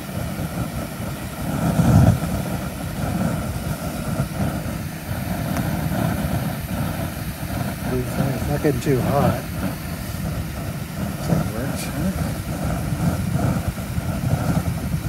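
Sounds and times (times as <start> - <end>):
propane burner rushing: 0.0 - 15.0.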